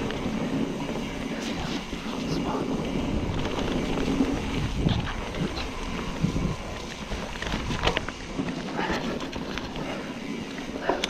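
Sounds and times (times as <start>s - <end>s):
bike rattling over roots: 0.0s - 11.0s
tyres rumbling on wet dirt: 0.0s - 11.0s
wind buffeting microphone: 0.0s - 11.0s.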